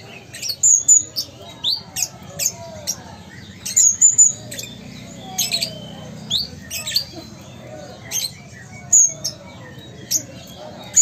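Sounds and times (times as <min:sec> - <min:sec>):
bird singing high chirps: 0:00.0 - 0:11.0.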